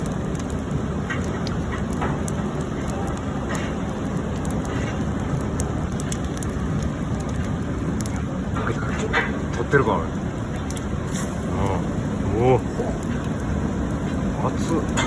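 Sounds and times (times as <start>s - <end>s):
wood fire rushing and crackling: 0.0s - 15.0s.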